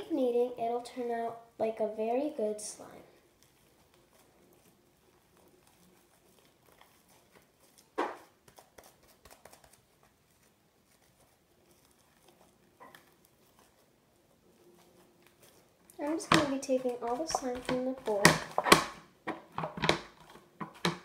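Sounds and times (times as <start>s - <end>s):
slime clicking and crackling: 3.2s - 21.0s.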